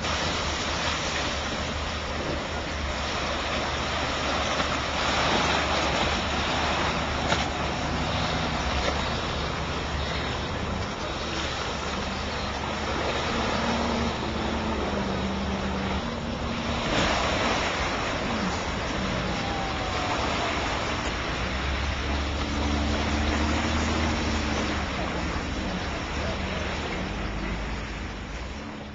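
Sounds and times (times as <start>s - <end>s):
engine drone: 0.0s - 28.9s
rushing water: 0.0s - 28.9s.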